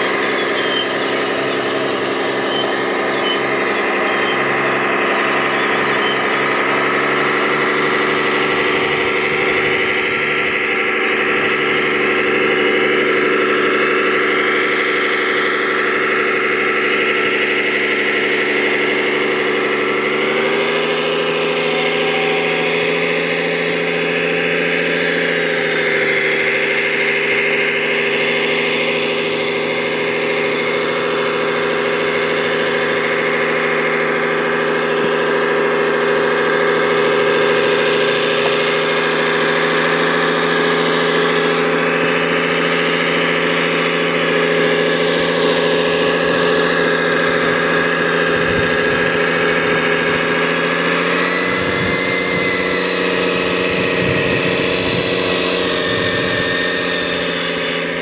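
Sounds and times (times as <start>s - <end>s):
model engine drone: 0.0s - 58.0s
rising and falling whine: 0.0s - 58.0s.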